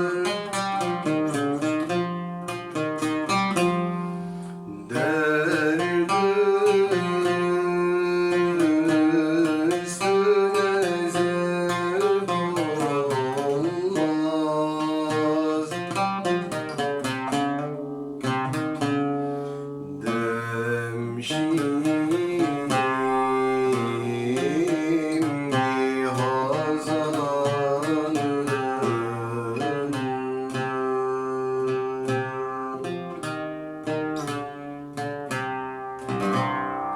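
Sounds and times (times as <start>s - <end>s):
person singing ornamented melody: 0.0s - 1.8s, 4.6s - 33.5s
plucked string instrument: 0.0s - 36.9s.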